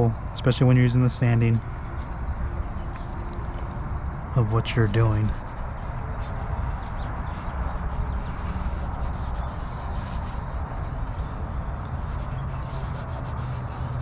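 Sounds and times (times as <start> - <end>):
steady low hum: 0.0 - 14.0
wipe rubbing plastic lens: 0.9 - 14.0.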